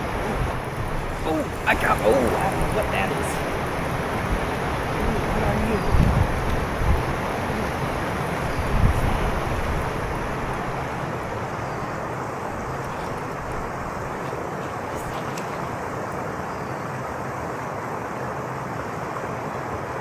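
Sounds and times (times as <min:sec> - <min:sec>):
steady outdoor rushing noise: 0:00.0 - 0:20.0.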